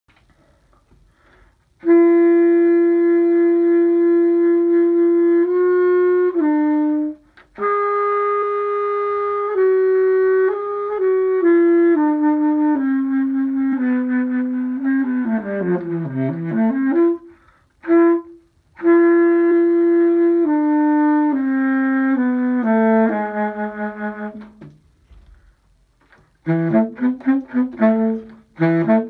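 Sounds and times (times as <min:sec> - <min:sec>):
clarinet solo melody: 0:01.8 - 0:25.2, 0:26.3 - 0:29.0.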